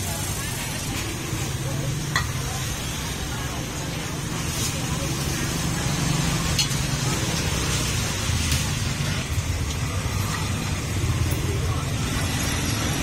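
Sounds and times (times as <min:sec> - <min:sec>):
motorbike engines running: 0:00.0 - 0:13.0
people talking: 0:00.0 - 0:13.0.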